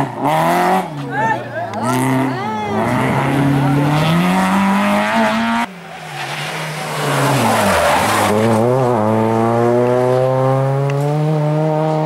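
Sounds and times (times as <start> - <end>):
rally car engine revving: 0.0 - 12.0
tyres skidding: 0.0 - 12.0.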